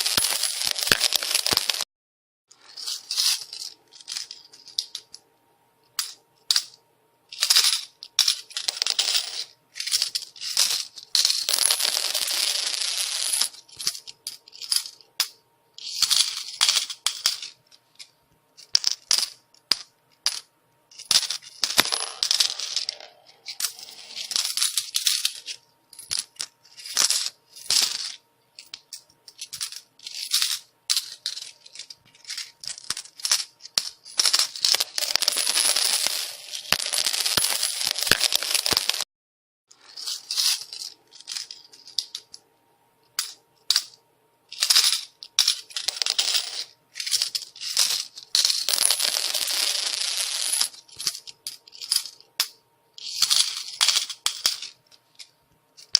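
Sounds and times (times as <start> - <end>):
coins falling and clattering: 0.0 - 1.8, 2.6 - 5.2, 6.0 - 39.0, 39.8 - 42.4, 43.2 - 55.9.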